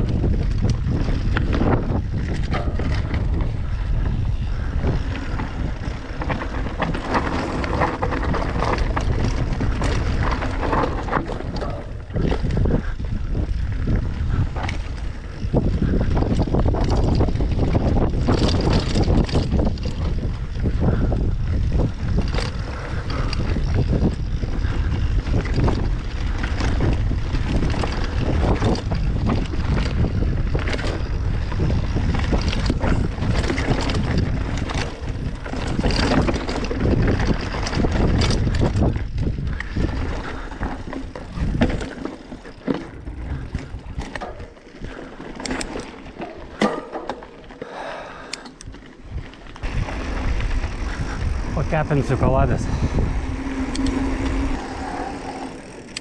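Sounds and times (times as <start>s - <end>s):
bicycle knocks and rattles: 0.0s - 52.0s
wind buffeting microphone: 0.0s - 56.0s.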